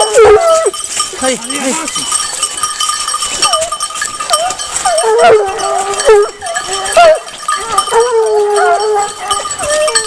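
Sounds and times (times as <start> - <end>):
collar bell ringing: 0.0 - 10.0
hounds baying: 0.0 - 10.0.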